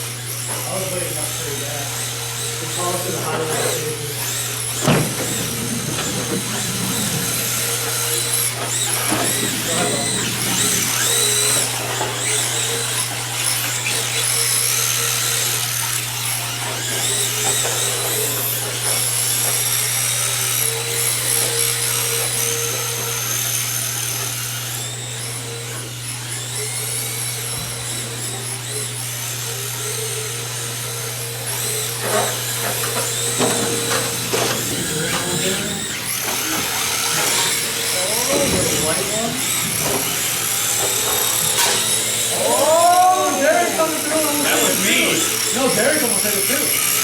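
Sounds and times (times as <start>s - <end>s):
electric motors whining: 0.0s - 47.0s.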